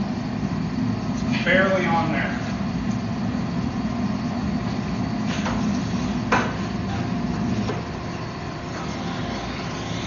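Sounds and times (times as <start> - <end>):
shop machinery drone: 0.0 - 10.0.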